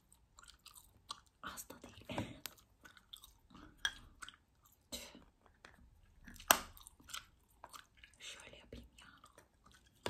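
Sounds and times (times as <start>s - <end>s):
chewing gum smacks and clicks: 0.0s - 10.0s.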